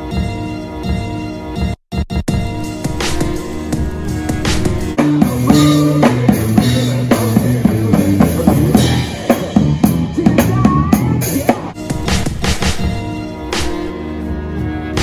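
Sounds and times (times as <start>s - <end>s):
drum kit beat: 0.0s - 14.0s
bassline: 0.0s - 15.0s.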